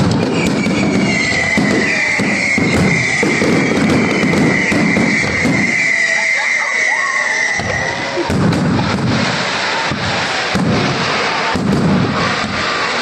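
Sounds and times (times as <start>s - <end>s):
fireworks bangs and crackles: 0.0s - 13.0s
long high whistle: 0.0s - 13.0s.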